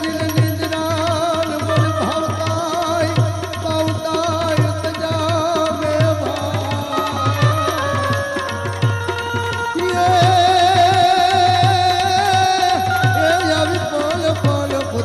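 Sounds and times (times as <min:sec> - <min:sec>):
hand drum beating: 0:00.0 - 0:15.0.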